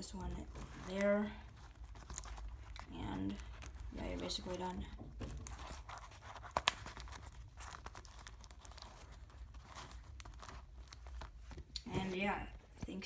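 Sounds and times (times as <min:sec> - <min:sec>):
paper rustling and scraping: 0:00.0 - 0:13.0.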